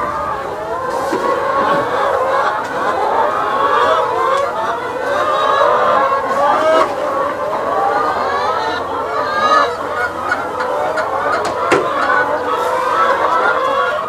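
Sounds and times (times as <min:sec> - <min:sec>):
poultry clucking: 0:00.0 - 0:14.0.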